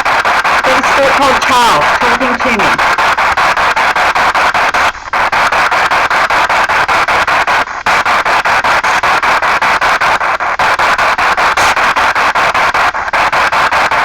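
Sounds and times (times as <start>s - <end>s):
chopped radio static: 0.0s - 14.0s.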